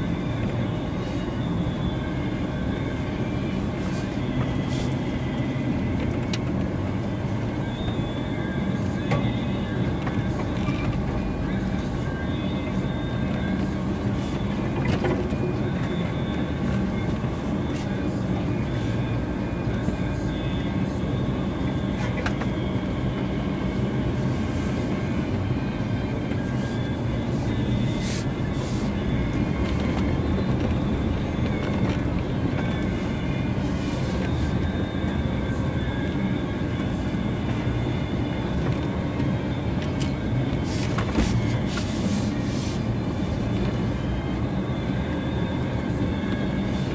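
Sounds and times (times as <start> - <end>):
vehicle rumbling on rough track: 0.0 - 46.9.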